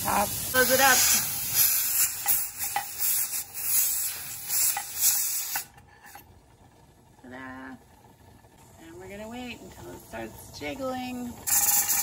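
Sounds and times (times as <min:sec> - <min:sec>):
steam hissing from vent pipe: 0:00.0 - 0:06.2, 0:08.5 - 0:12.0.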